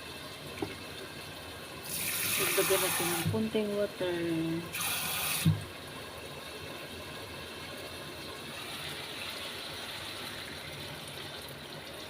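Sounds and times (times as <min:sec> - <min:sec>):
pot simmering with hiss and bubble: 0:00.0 - 0:12.0.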